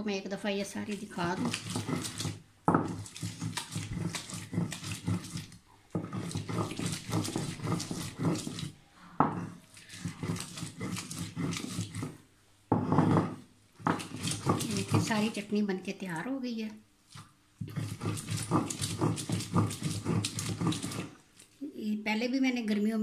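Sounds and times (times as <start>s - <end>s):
stone grinding on stone slab: 1.0s - 15.5s, 17.2s - 21.2s.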